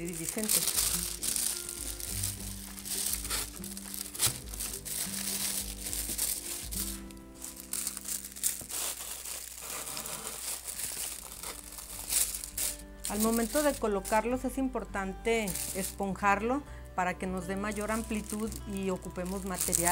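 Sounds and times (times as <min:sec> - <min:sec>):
paper crinkling and rustling: 0:00.0 - 0:14.4, 0:15.4 - 0:16.0, 0:17.4 - 0:19.9
background music with held notes: 0:00.0 - 0:19.9.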